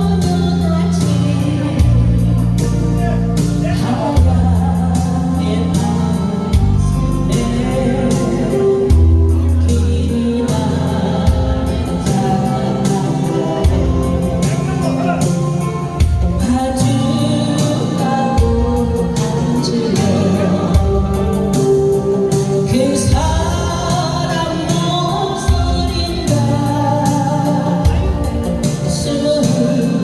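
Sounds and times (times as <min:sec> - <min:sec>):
instrumental backing track: 0:00.0 - 0:30.0
person singing a slow ballad: 0:00.0 - 0:30.0.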